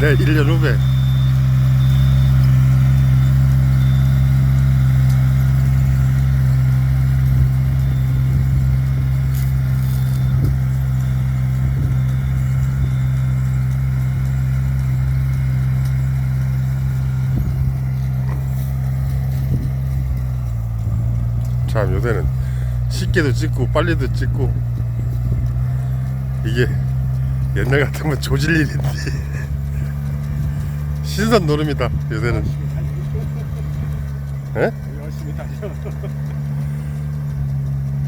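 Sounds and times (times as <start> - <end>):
engine humming steadily: 0.0 - 38.0.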